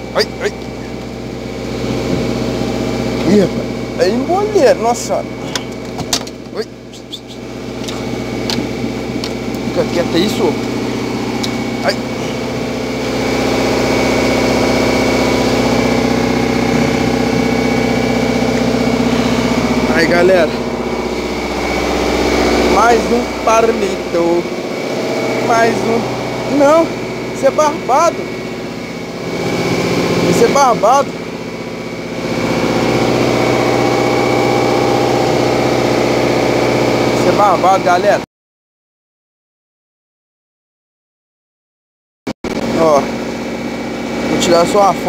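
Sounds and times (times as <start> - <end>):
engine running steadily: 0.0 - 38.2, 42.5 - 45.0
thin steady whine: 0.0 - 38.2, 42.5 - 45.0.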